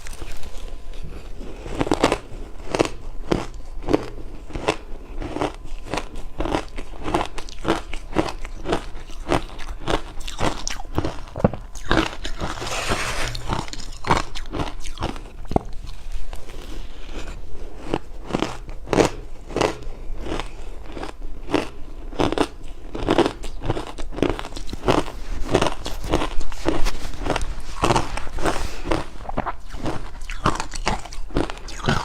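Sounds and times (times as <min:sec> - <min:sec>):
chewing ice cubes: 0:00.0 - 0:32.0.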